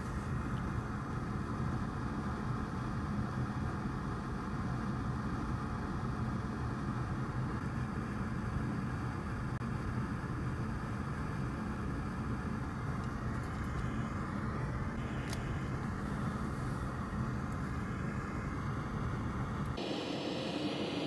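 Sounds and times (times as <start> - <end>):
fan humming and rushing air: 0.0 - 21.0.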